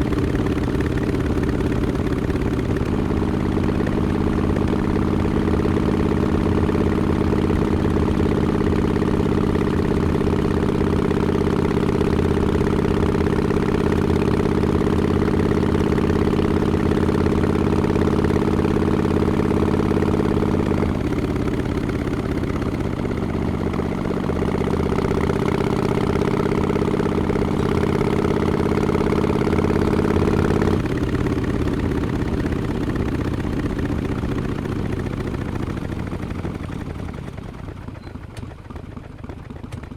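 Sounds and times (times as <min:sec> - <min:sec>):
motorcycle exhaust at steady revs: 0:00.0 - 0:39.9.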